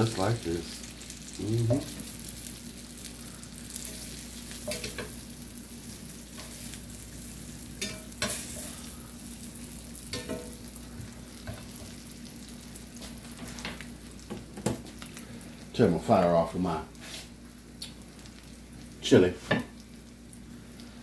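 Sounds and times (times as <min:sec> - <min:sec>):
vegetables sizzling in a skillet: 0:00.0 - 0:21.0.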